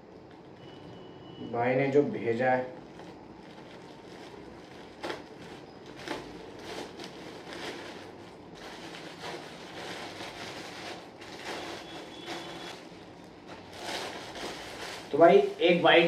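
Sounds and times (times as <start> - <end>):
plastic crinkling and rustling: 2.4 - 16.0.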